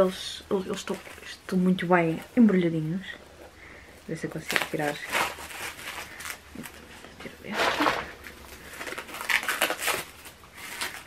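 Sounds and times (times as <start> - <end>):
wrapping paper crinkling and tearing: 0.0 - 2.6, 4.3 - 11.0.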